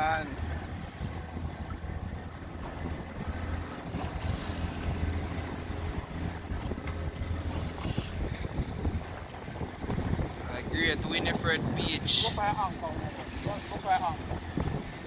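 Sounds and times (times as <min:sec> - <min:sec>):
boat motor humming: 0:00.0 - 0:15.0
water rushing past hull: 0:00.0 - 0:15.0
wind buffeting microphone: 0:00.0 - 0:15.0.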